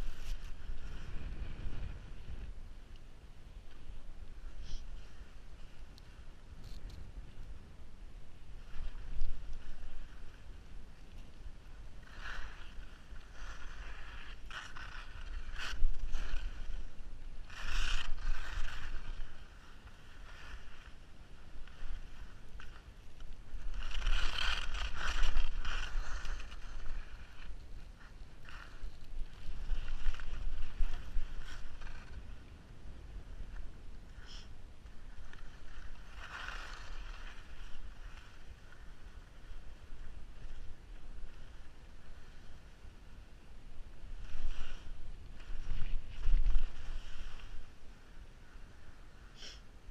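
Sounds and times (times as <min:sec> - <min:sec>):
skis scraping over snow: 0:00.0 - 0:02.4, 0:08.3 - 0:43.2, 0:44.0 - 0:49.6
wind on microphone: 0:00.0 - 0:49.2.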